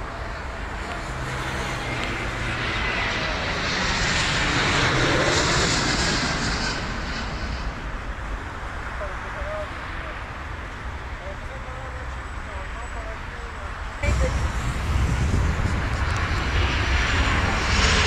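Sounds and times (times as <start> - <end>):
jet airliner flying past: 0.0 - 18.0.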